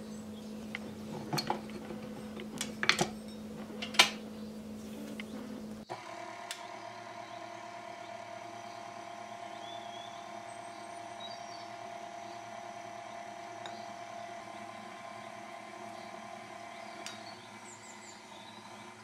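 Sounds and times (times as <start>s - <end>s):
stand mixer motor hum: 0.0s - 19.0s.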